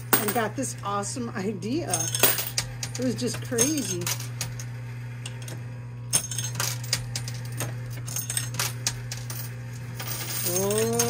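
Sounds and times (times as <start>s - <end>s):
coins clinking and sliding: 0.0s - 0.5s, 1.9s - 11.0s
steady low hum: 0.0s - 11.0s.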